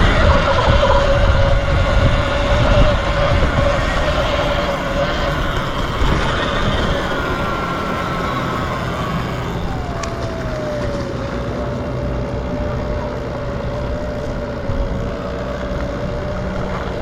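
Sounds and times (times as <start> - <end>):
electric motor whining: 0.0 - 17.0
wind rumble: 0.0 - 17.0.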